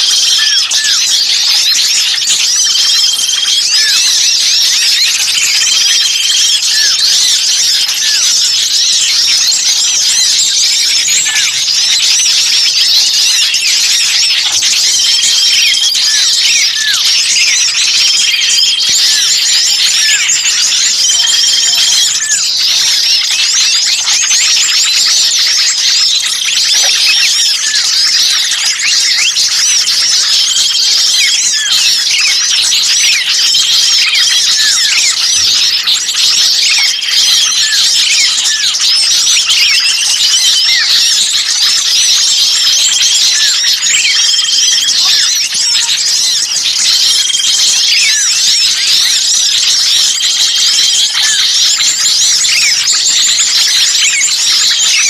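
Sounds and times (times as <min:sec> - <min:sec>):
agitated bird calls: 0:00.0 - 0:55.0
songbirds chattering and twittering: 0:00.0 - 0:55.0.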